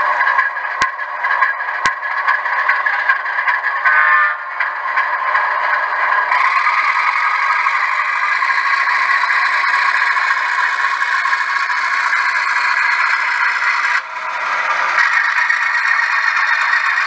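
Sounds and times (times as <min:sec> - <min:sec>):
model train rattling on track: 0:00.0 - 0:17.0.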